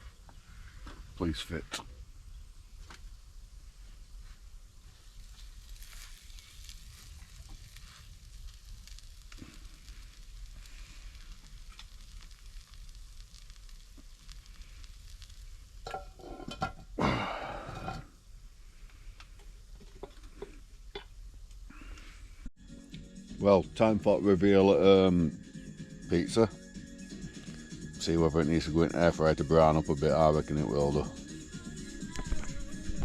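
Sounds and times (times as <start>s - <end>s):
food sizzling over fire: 0.0s - 33.0s
small crackles of fire: 0.0s - 33.0s.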